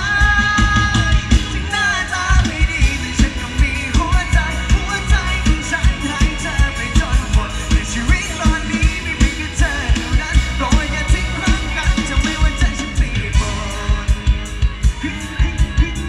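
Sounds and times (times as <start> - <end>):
fast drum beat: 0.0 - 16.0
ornamented melody line: 0.0 - 16.0.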